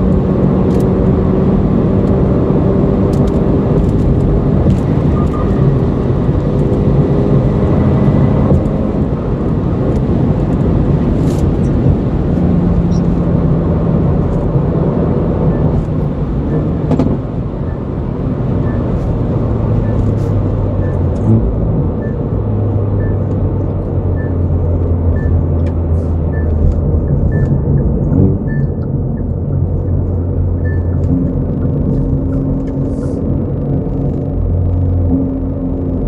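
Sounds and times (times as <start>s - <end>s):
car engine droning at cruise: 0.0s - 36.0s
tyre and road noise: 0.0s - 36.0s.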